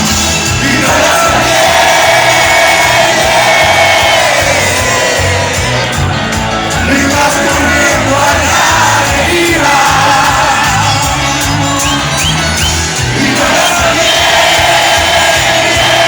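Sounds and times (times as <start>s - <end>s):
crowd singing and shouting: 0.0s - 16.0s
live cuarteto music: 0.0s - 16.0s.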